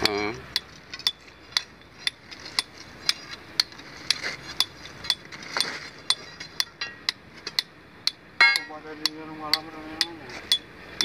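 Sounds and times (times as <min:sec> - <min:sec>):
hammer striking steel chisel: 0:00.0 - 0:10.7.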